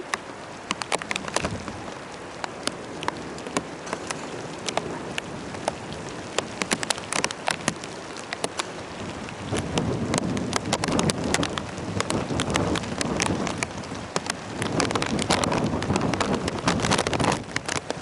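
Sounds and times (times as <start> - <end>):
rain falling: 0.0 - 18.0
raindrops tapping hard surface: 0.0 - 18.0.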